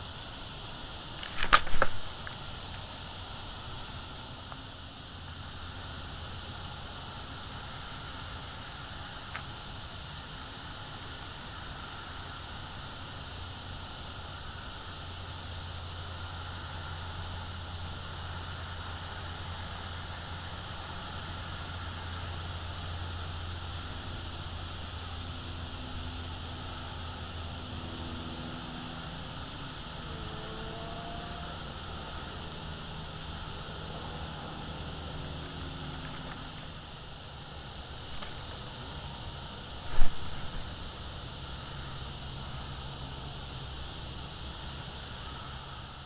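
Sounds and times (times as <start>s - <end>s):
low motor hum: 0.0s - 46.0s
steady outdoor hiss: 0.0s - 46.0s.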